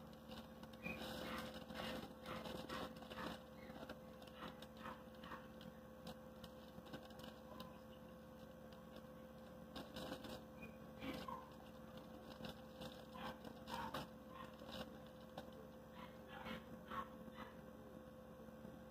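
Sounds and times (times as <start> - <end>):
plastic bottles crinkling: 0.0 - 15.7
steady electrical hum: 0.0 - 18.9.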